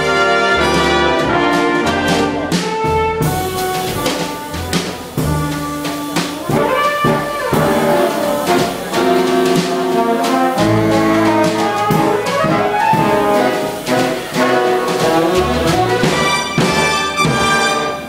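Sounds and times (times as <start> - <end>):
big band jazz horns: 0.0 - 18.0
drum and cymbal hits: 0.0 - 18.0.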